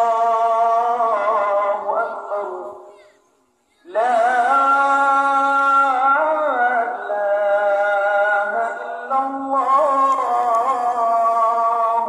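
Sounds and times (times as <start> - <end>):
person singing a slow chant: 0.0 - 3.2, 3.8 - 12.0.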